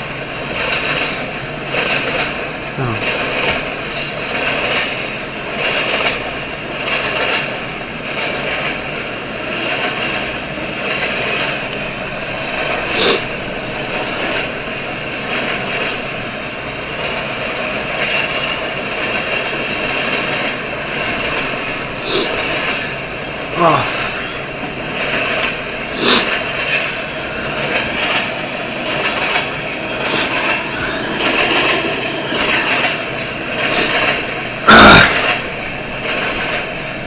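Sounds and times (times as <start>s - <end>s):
freight cars rumbling on rails: 0.0s - 37.0s.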